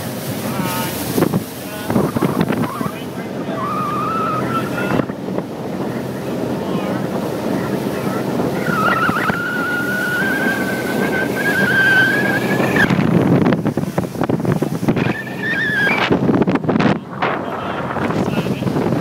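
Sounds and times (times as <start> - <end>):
boat engine running at speed: 0.0 - 19.0
water rushing past hull: 0.0 - 19.0
wind buffeting microphone: 0.0 - 19.0.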